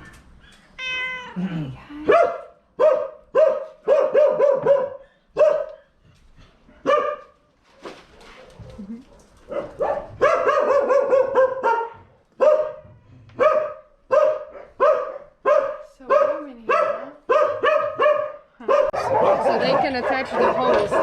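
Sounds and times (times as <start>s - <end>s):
dogs barking: 2.0s - 6.0s, 6.7s - 7.4s, 8.3s - 21.0s.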